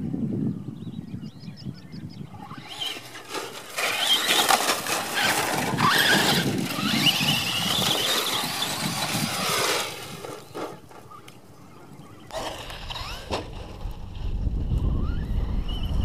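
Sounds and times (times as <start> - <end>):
electric motor whine: 2.3 - 11.4, 12.2 - 16.0
tyres scrabbling on dirt: 2.3 - 16.0.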